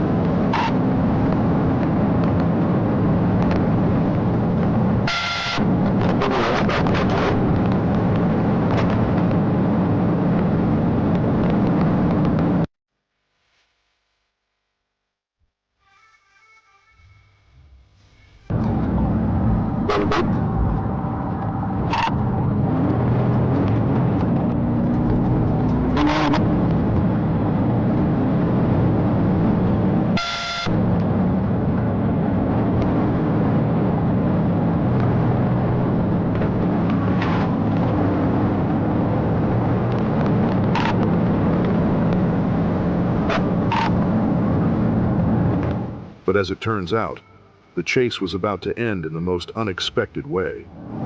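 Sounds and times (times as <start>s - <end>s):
car engine and road noise: 0.0s - 12.7s, 17.4s - 51.0s.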